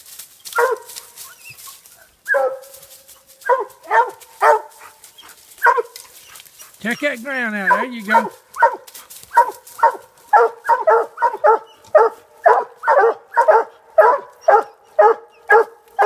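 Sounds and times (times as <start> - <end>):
hounds barking: 0.5 - 16.0.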